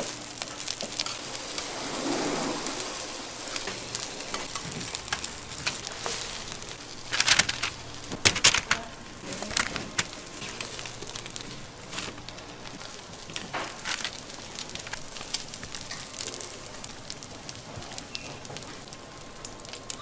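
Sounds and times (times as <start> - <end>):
batter sizzling in oil: 0.0 - 20.0
oil popping: 0.0 - 20.0.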